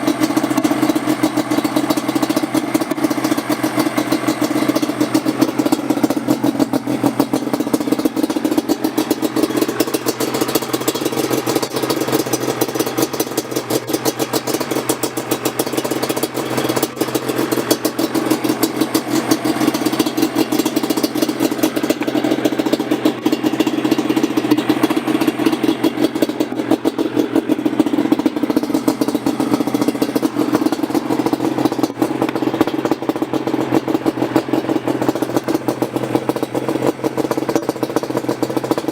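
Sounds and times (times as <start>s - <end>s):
small engine idling: 0.0s - 38.9s.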